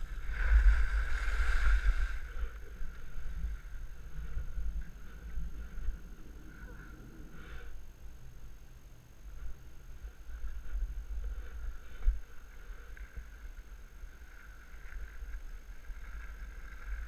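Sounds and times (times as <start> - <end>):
skis sliding on snow: 0.0 - 7.6, 10.1 - 17.0
wind rumbling on microphone: 0.0 - 17.0.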